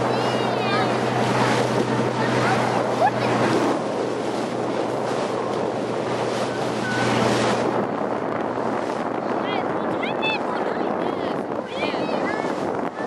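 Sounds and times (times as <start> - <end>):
boat engine hum: 0.0 - 13.0
rushing water: 0.0 - 13.0
wind buffeting microphone: 0.0 - 13.0.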